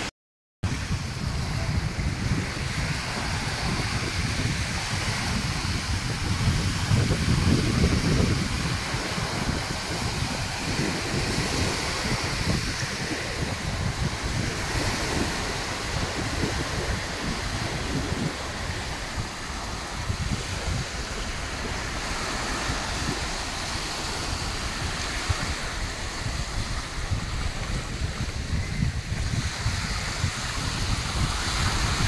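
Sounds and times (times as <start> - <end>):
wind buffeting microphone: 0.6 - 32.0
small waves breaking on shore: 0.7 - 32.0.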